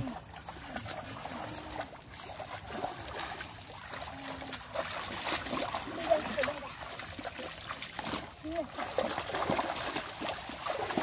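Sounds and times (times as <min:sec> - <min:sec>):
muddy water sloshing and splashing: 0:00.0 - 0:11.0
loud splash: 0:01.7 - 0:11.0.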